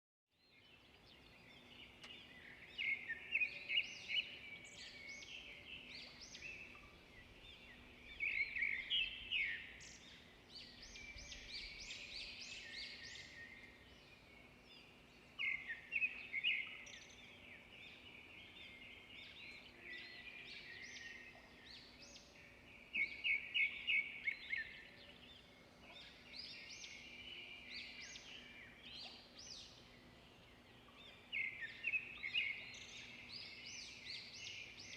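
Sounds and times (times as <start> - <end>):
songbirds singing and chirping: 0.3 - 34.9.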